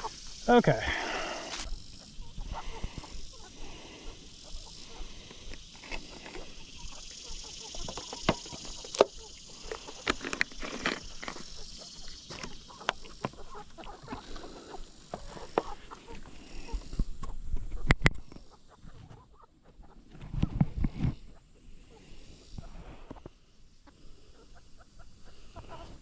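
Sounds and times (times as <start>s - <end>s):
chickens clucking softly: 1.0s - 10.0s, 11.0s - 26.0s.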